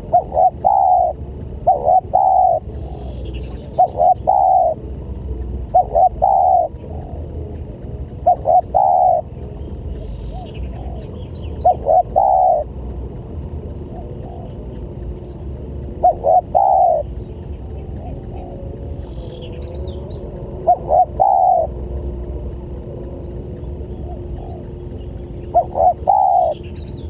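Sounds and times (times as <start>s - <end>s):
dove cooing: 0.0s - 12.9s, 13.7s - 27.0s
low background rumble: 0.0s - 27.0s
small birds chirping: 0.0s - 27.0s.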